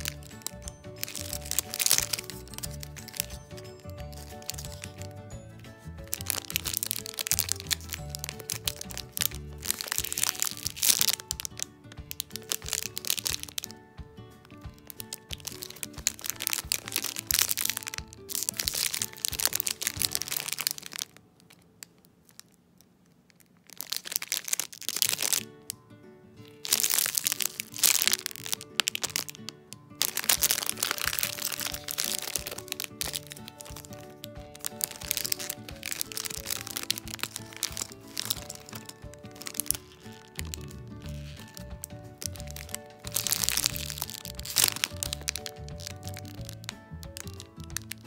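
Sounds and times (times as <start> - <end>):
plastic bags crinkling: 0.0 - 13.8, 14.4 - 25.7, 26.4 - 48.0
background music: 0.0 - 21.5, 24.4 - 48.0.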